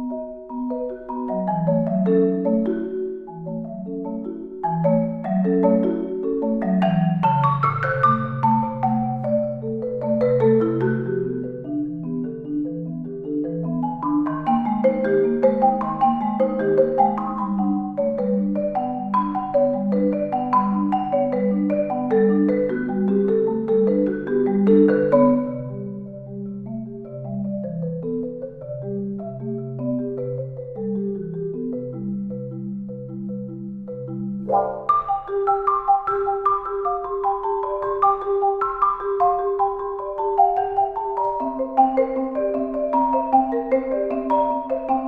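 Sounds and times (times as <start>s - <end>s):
solo marimba: 0.0s - 45.0s.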